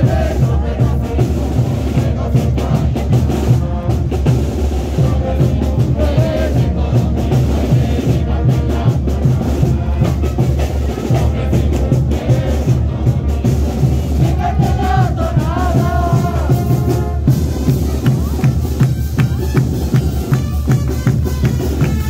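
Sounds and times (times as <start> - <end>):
heavy bass drum beat: 0.0 - 22.0.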